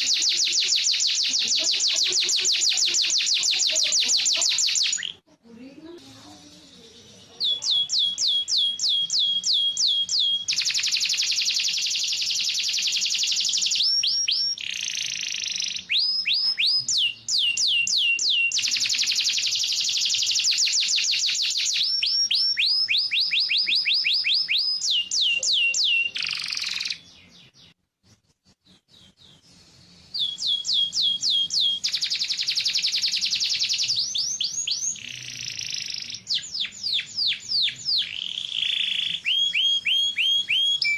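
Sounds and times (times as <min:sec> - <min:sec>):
canary singing: 0:00.0 - 0:27.8, 0:28.6 - 0:40.9.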